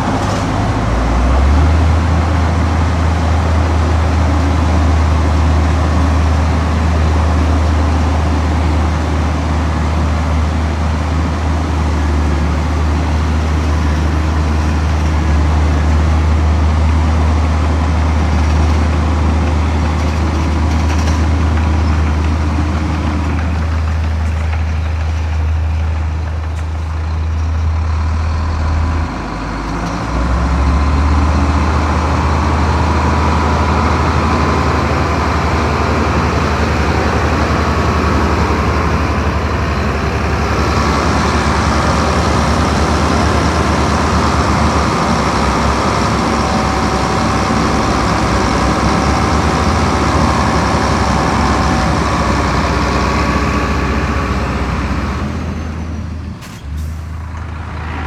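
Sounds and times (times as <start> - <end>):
diesel engine hum: 0.0 - 58.0.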